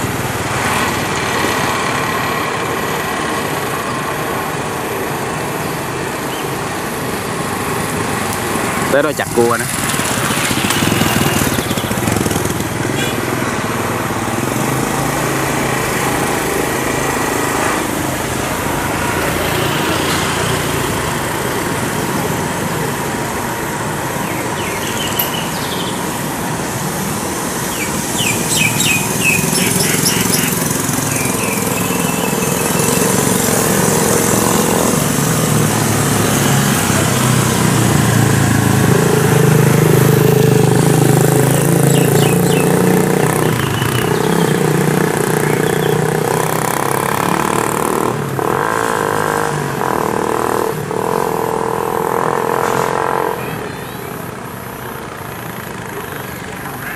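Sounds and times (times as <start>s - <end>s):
motorbike engines: 0.0s - 56.9s
motorbike passing close: 0.0s - 56.9s.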